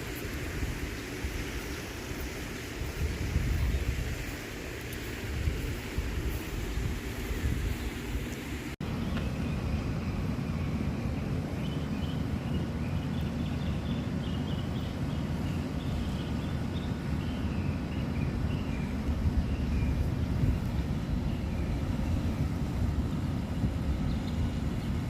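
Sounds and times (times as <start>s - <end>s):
wind on microphone: 0.0s - 13.8s, 14.9s - 25.0s
birds chirping: 0.0s - 25.0s.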